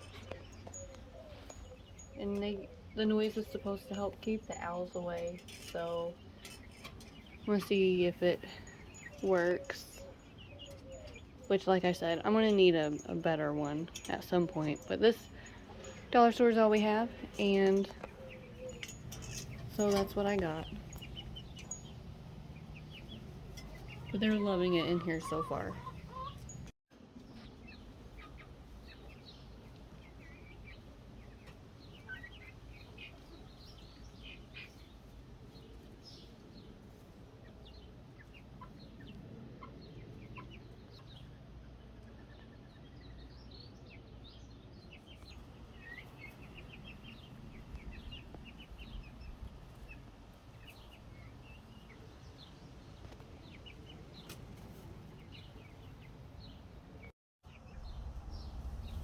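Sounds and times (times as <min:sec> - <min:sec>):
chicks peeping and clucking: 0:00.0 - 0:57.9.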